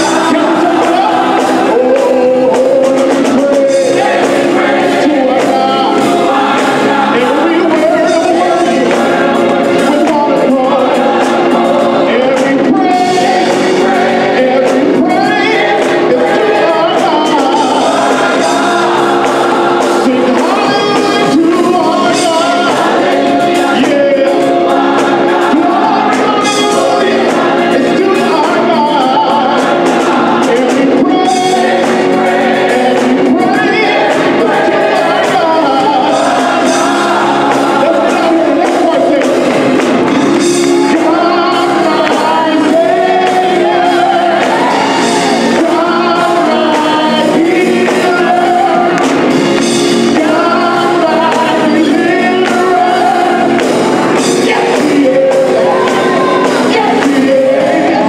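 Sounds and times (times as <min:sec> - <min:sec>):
drum kit: 0:00.0 - 0:58.0
electric bass: 0:00.0 - 0:58.0
gospel choir singing in harmony: 0:00.0 - 0:58.0
organ: 0:00.0 - 0:58.0.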